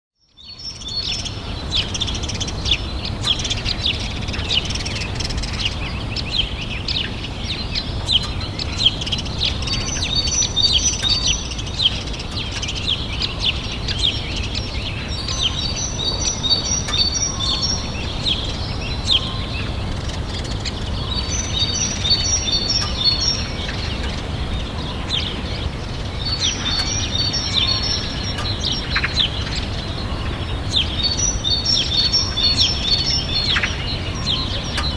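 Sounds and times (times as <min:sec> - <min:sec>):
birds chirping: 0:00.3 - 0:34.9
steady low rumble: 0:01.6 - 0:34.9.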